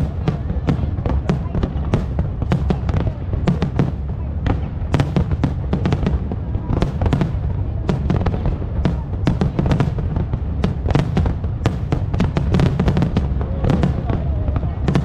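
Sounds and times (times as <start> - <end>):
fireworks cracks and pops: 0.0 - 15.0
low rumble of booms: 0.0 - 15.0.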